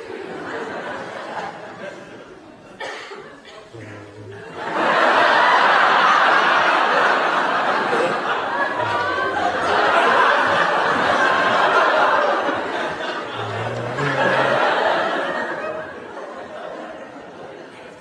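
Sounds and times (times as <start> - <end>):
studio audience laughing: 0.0 - 18.0.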